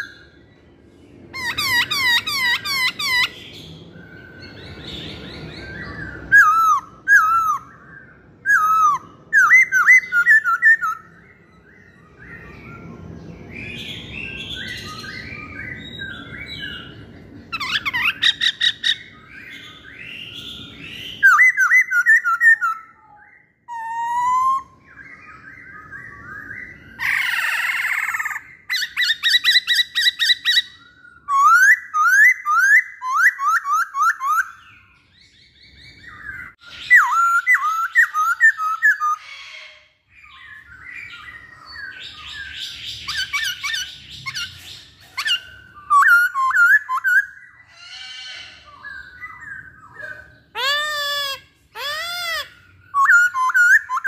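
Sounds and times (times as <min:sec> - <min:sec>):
bird singing whistled phrases: 0:01.4 - 0:17.0, 0:17.6 - 0:39.6, 0:40.2 - 0:54.0.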